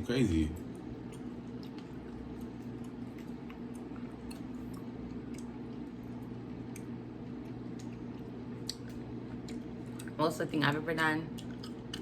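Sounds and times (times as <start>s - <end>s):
steady low hum: 0.0s - 12.0s
chewing gum wet smacks: 1.0s - 10.2s, 11.3s - 12.0s.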